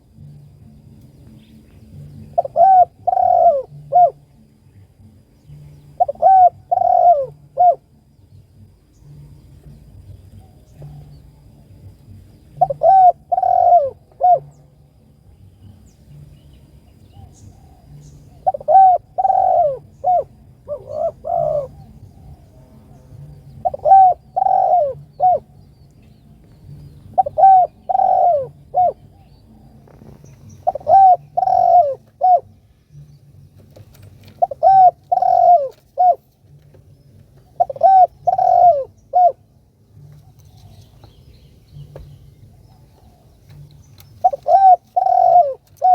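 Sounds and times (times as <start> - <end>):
faint low hum: 0.0 - 45.9
dove cooing: 1.8 - 4.5, 5.5 - 8.0, 9.1 - 11.8, 12.4 - 14.8, 17.0 - 45.9.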